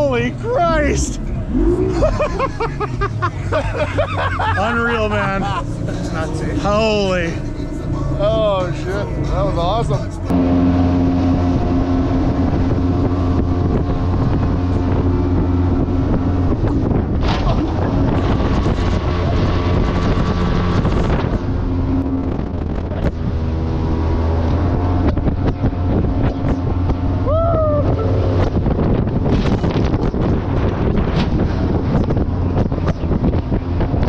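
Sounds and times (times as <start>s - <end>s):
jet boat engine: 0.0s - 34.0s.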